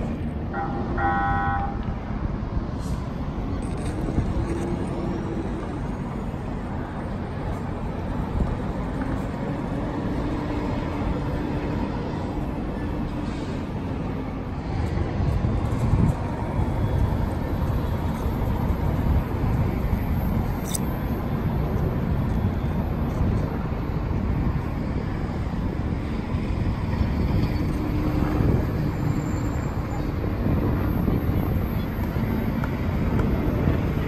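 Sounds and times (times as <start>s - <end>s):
light rail car rumbling: 0.0s - 34.0s
road traffic noise: 0.0s - 34.0s.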